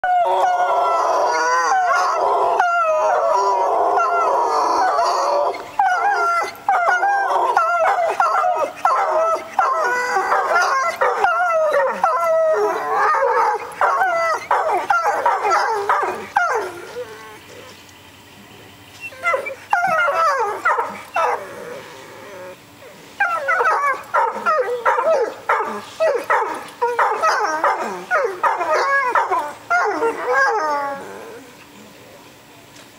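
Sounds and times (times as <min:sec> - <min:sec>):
dogs howling with yips: 0:00.0 - 0:17.7, 0:19.0 - 0:31.7.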